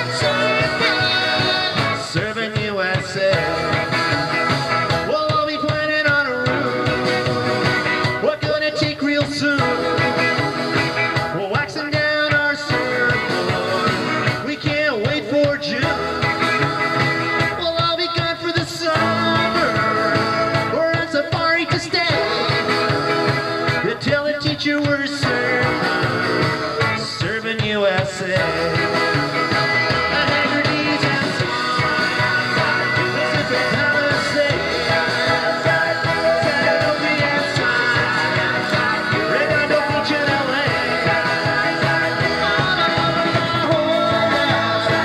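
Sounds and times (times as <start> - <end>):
live surf rock band: 0.0 - 45.0
person singing: 0.0 - 45.0.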